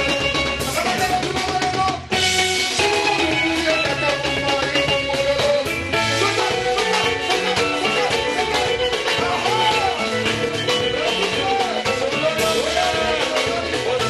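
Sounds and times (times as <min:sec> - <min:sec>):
upbeat dance-band music: 0:00.0 - 0:14.0.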